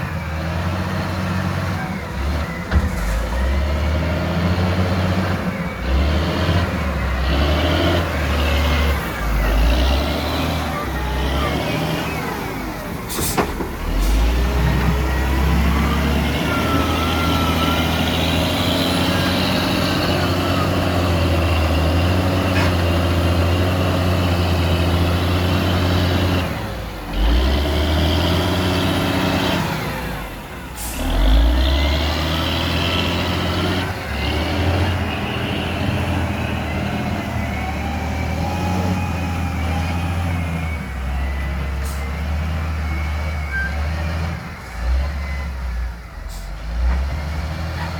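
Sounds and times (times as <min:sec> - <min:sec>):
excavator diesel engine digging: 0:00.0 - 0:47.9.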